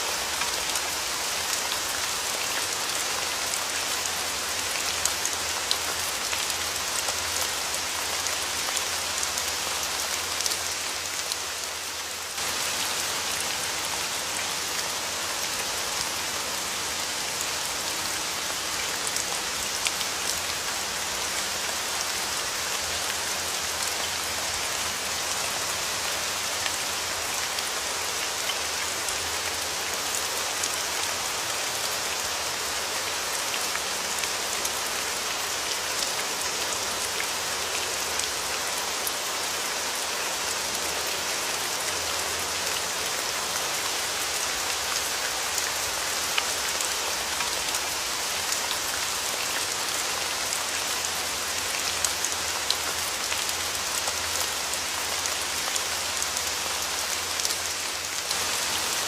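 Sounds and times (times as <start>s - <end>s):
steady rain with ticking drops: 0.0s - 59.0s.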